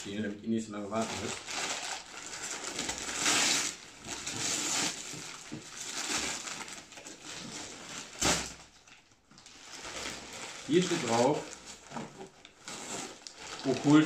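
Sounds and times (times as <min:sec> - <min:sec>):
wrapping paper tearing and crumpling: 0:00.9 - 0:14.0.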